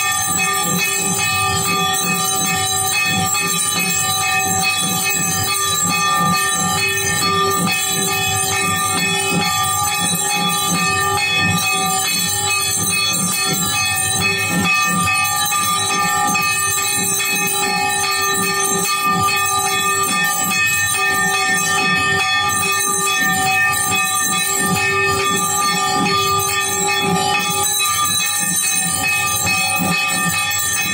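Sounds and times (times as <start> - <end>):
bells ringing and clanging: 0.0 - 30.9.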